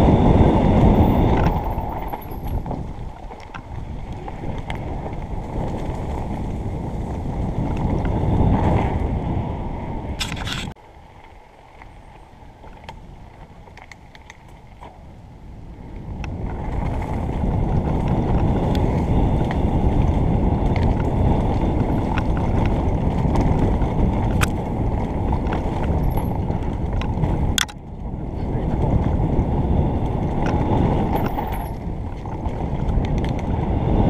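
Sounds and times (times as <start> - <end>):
wind on microphone: 0.0 - 10.8, 11.9 - 34.0
bike tyres rumbling on dirt: 0.0 - 34.0
bike clicks and rattles: 0.7 - 9.2, 10.2 - 34.0.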